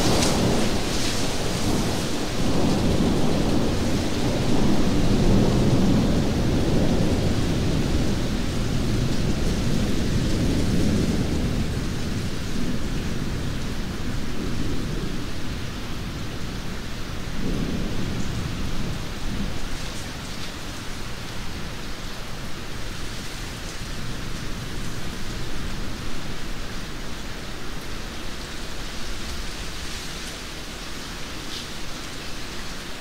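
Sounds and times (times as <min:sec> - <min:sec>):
low thunder rumbles: 0:00.0 - 0:31.4
heavy rain falling: 0:00.0 - 0:33.0.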